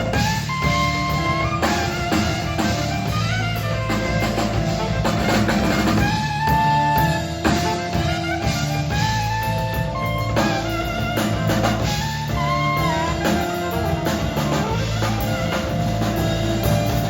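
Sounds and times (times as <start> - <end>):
saxophone melody: 0.0 - 17.0
smooth jazz band: 0.0 - 17.0.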